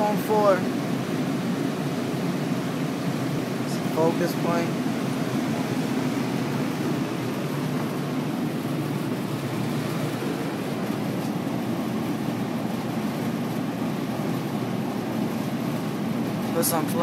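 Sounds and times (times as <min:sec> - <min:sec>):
refrigeration fans droning: 0:00.0 - 0:17.0.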